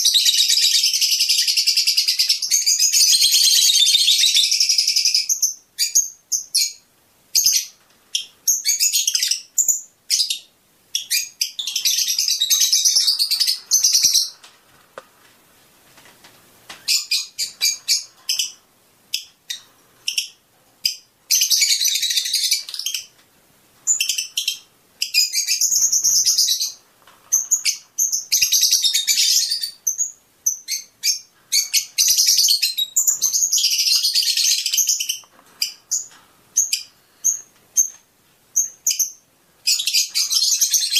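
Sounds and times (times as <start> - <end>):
lovebirds chirping: 0.0 - 15.1, 16.7 - 23.2, 23.8 - 40.9.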